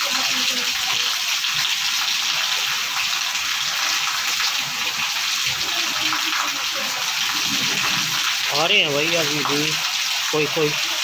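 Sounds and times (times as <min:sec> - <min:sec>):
heavy rain on brick: 0:00.0 - 0:11.0.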